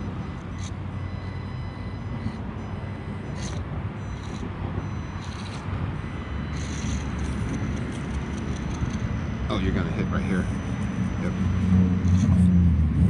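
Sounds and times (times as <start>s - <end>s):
small electric motor whirring: 0.0s - 12.6s.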